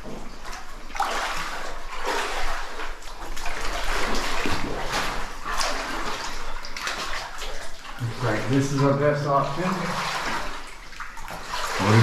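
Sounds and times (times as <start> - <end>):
water splashing from wading: 0.0 - 12.0.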